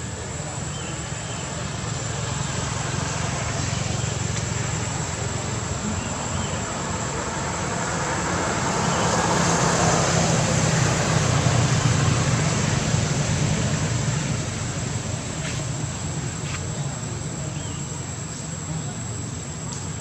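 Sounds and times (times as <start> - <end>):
motor vehicle passing by: 0.0 - 18.0.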